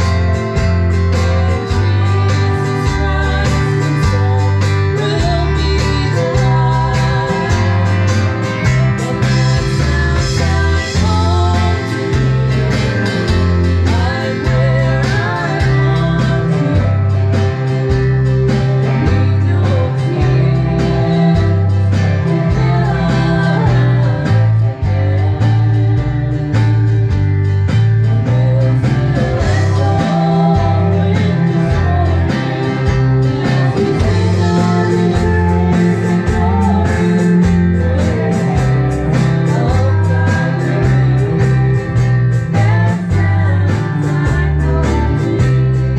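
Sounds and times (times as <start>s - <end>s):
woman singing: 0.0s - 27.3s, 28.0s - 45.9s
bass line: 0.0s - 45.9s
drum kit beat: 0.0s - 45.9s
electric guitars: 0.0s - 45.9s.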